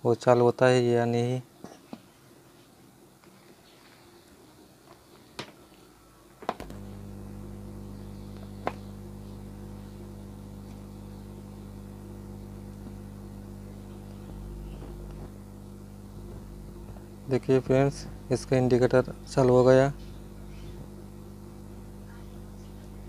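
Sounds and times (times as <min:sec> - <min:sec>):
mains hum: 0:00.0 - 0:23.0.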